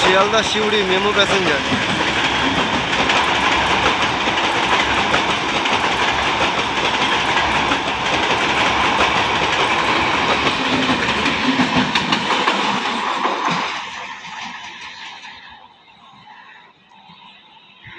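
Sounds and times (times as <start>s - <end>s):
wheels clicking over rail joints: 0.0s - 15.5s
train wheels rumbling on rails: 0.0s - 17.9s.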